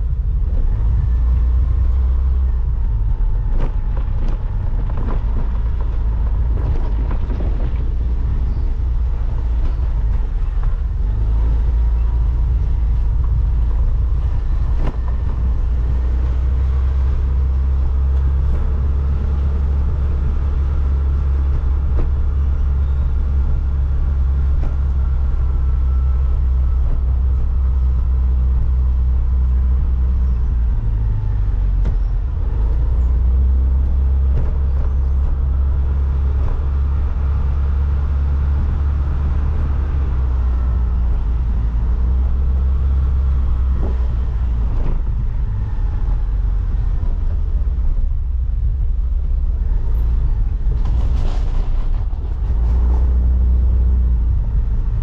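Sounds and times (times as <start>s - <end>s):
vehicle rumble while driving: 0.0s - 55.0s.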